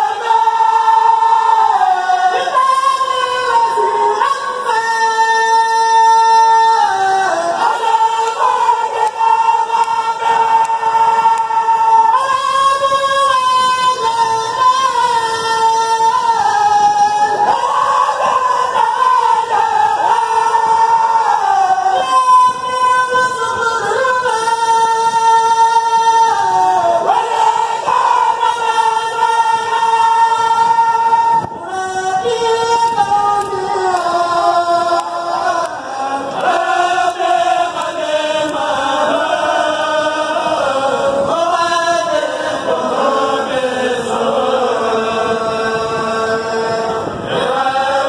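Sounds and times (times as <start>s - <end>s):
men chanting in unison: 0.0s - 48.0s.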